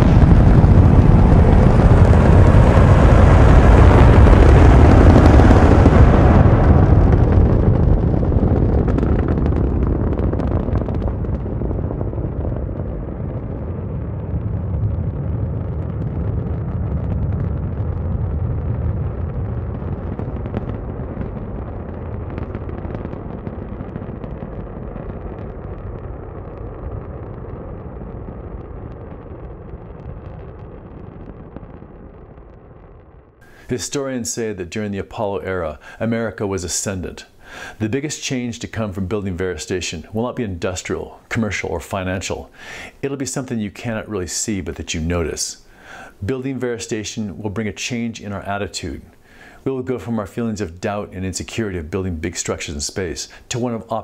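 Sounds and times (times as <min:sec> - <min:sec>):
rocket engines rumbling with crackling: 0:00.0 - 0:54.0.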